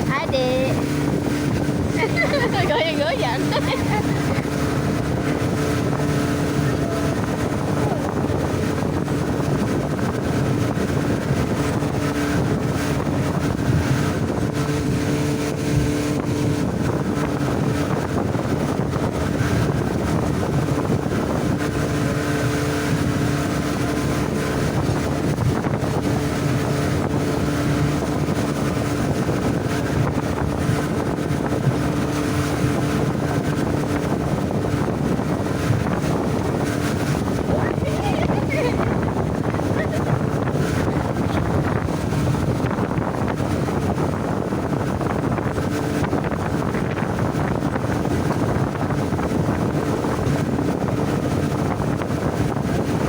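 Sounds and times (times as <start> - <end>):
motorboat engine drone: 0.0 - 53.0
water noise: 0.0 - 53.0
wind buffeting microphone: 0.0 - 53.0.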